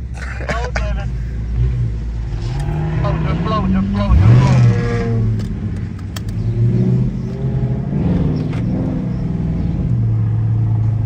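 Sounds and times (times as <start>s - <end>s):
car engine drone from inside cabin: 0.0s - 11.0s.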